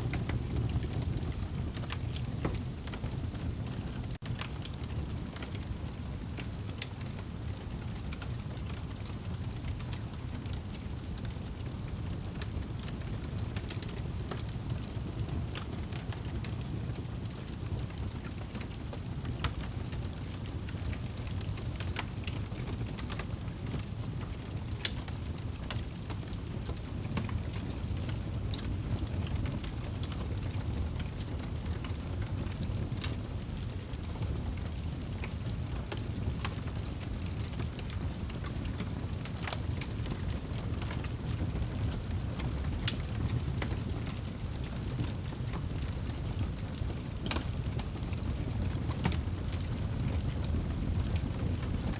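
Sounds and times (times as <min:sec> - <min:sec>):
burning wood crackling: 0:00.0 - 0:51.9
rain: 0:00.0 - 0:51.9.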